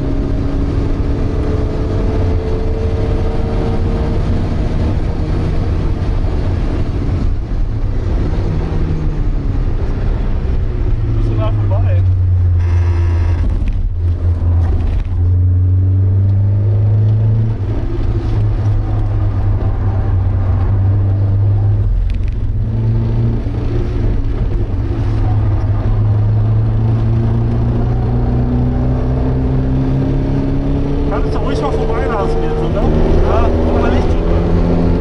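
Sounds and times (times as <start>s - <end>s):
car engine under load: 0.0s - 35.0s.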